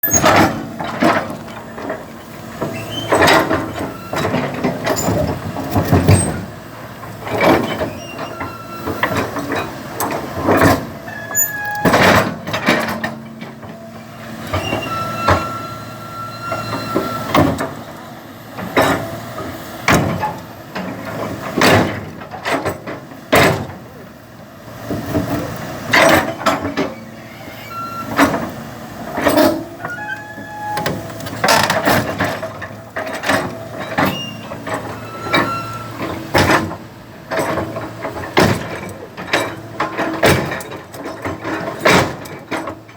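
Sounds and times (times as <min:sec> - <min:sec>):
excavator clanking and grinding: 0:00.0 - 0:42.9
excavator engine running: 0:00.0 - 0:42.9.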